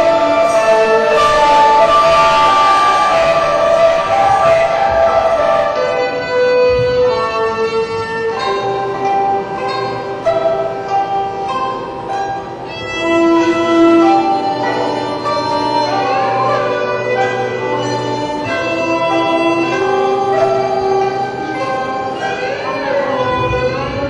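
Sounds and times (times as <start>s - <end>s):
bowed strings melody: 0.0s - 24.0s
low steady drone: 0.0s - 24.0s.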